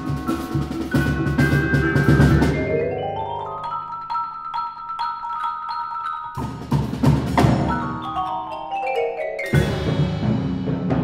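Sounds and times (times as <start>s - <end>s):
marimbas and vibraphone: 0.0s - 11.0s
percussion ensemble with drums: 0.0s - 11.0s.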